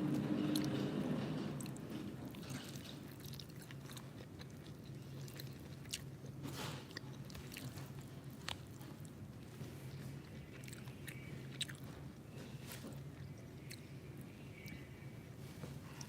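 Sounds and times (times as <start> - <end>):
faint low hum: 0.0 - 16.0
chewing food: 1.6 - 14.9.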